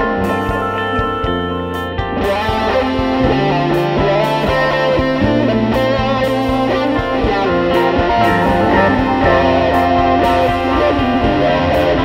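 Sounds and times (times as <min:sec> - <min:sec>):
bass line: 0:00.0 - 0:12.0
electric guitar: 0:00.0 - 0:12.0
steady drum beat: 0:00.0 - 0:12.0.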